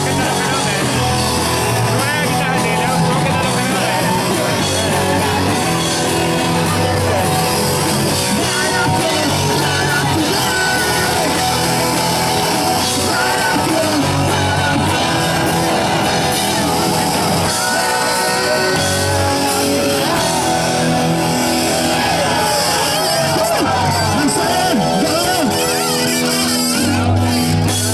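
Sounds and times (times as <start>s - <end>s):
amplified rock instruments: 0.0s - 27.9s
punk band playing live: 0.0s - 27.9s
vocals: 0.0s - 27.9s.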